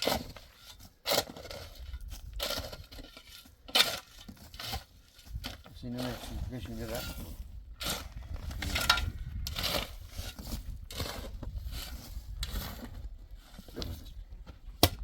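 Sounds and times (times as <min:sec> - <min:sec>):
scraping and crunching: 0:00.0 - 0:15.0.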